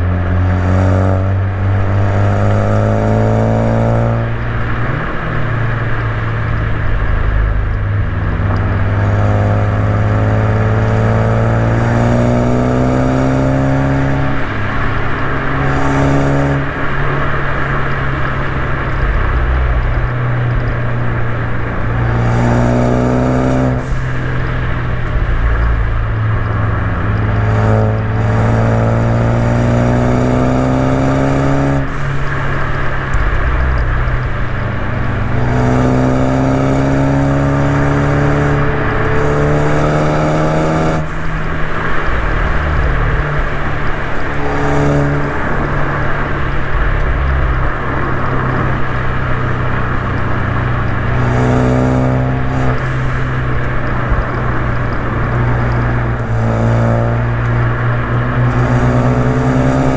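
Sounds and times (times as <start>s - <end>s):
car engine accelerating hard: 0.0s - 59.9s
road and tyre drone: 0.0s - 59.9s.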